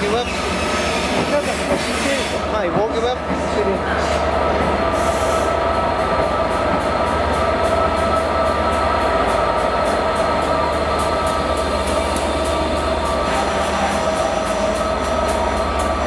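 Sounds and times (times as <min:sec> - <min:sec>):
diesel locomotive engine hum and whine: 0:00.0 - 0:16.0
train rumble: 0:00.0 - 0:16.0.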